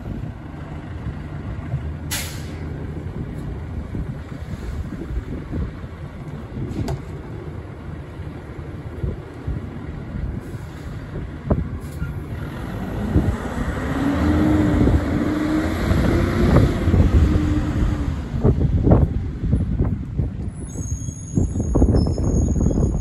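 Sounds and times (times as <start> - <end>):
diesel truck engine running: 0.0 - 20.6.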